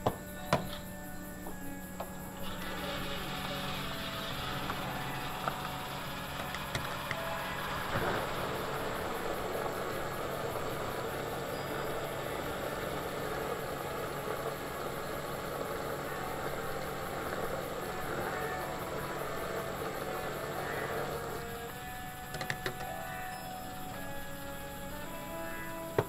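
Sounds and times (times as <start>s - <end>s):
engine rumble and hiss: 0.0s - 26.0s.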